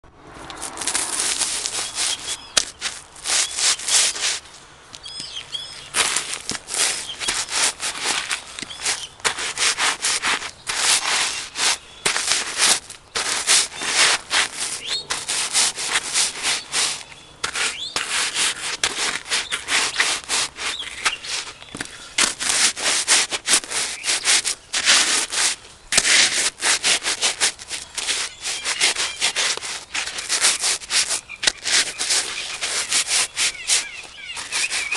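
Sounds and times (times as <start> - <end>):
boots crunching crackers: 0.4 - 34.9.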